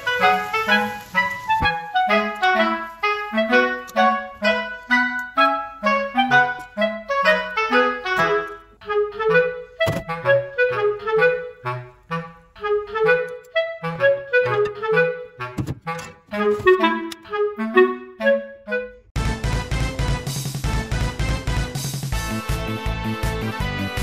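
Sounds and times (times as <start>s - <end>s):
woodwind melody: 0.0s - 19.4s.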